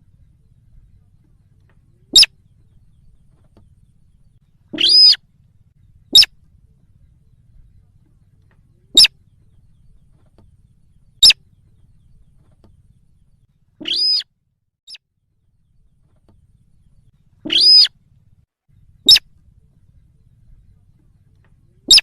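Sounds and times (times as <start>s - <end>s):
recorded bird calls: 0.0s - 14.3s, 14.9s - 22.0s.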